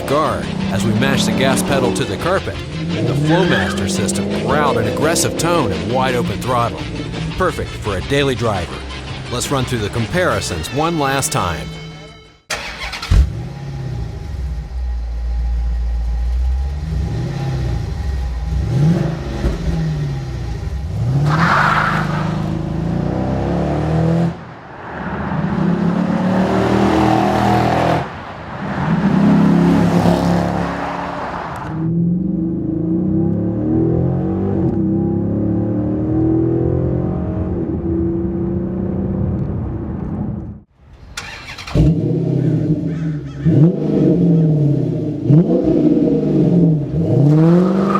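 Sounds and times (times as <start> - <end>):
car engine revving: 0.0 - 10.7, 12.5 - 47.9.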